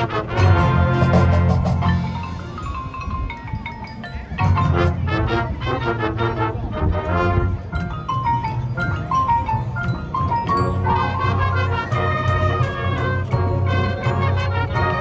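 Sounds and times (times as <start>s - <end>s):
marching band playing: 0.0s - 3.2s, 4.4s - 15.0s.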